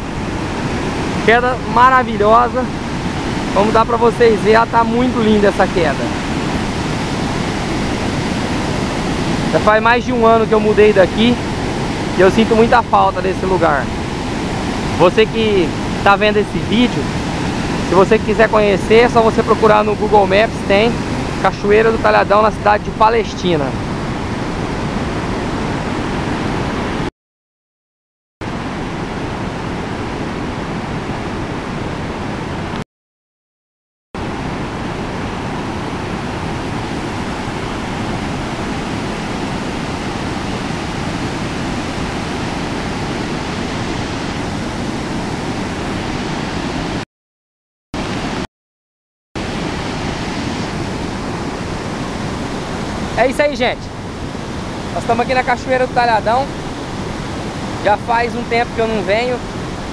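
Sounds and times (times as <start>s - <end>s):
waterfall and rapids rushing: 0.0s - 27.1s, 28.5s - 32.8s, 34.2s - 47.0s, 48.0s - 48.4s, 49.4s - 59.9s.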